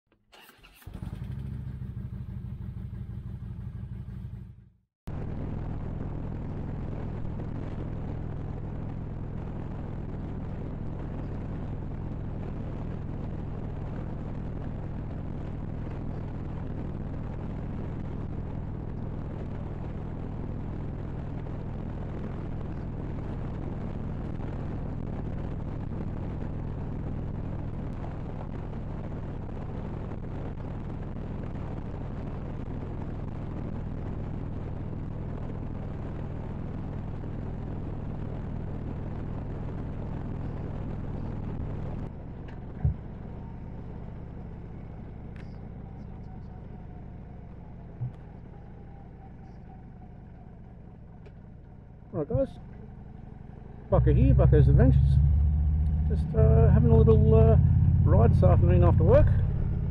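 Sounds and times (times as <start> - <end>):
wind and road noise: 0.2 - 59.9
motorcycle engine running: 0.8 - 59.9.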